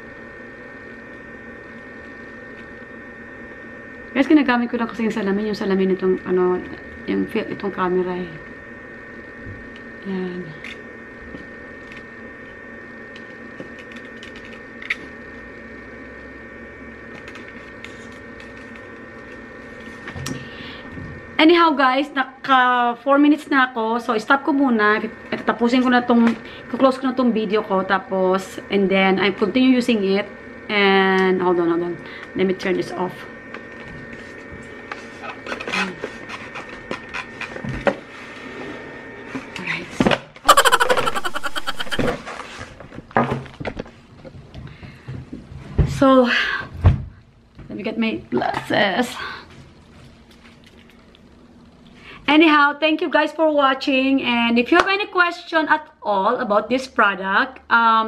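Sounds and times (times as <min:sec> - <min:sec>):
electrical hum with high tones: 0:00.0 - 0:58.0.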